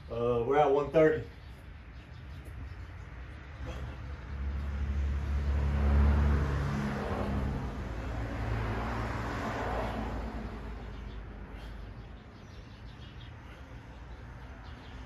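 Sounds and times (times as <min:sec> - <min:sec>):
road traffic: 0:00.0 - 0:15.0
car passing: 0:02.9 - 0:15.0.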